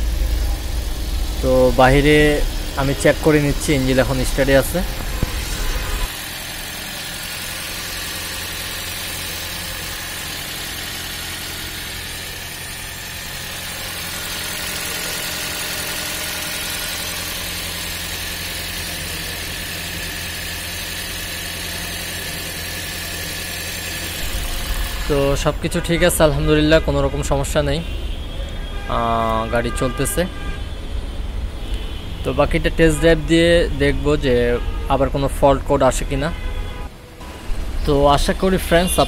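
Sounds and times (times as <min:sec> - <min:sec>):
car engine idling: 0:00.0 - 0:29.5, 0:36.5 - 0:39.0.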